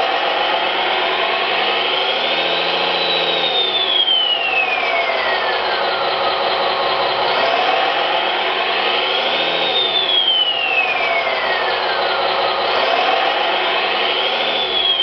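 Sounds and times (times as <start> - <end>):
simulated engine revving: 0.0 - 15.0.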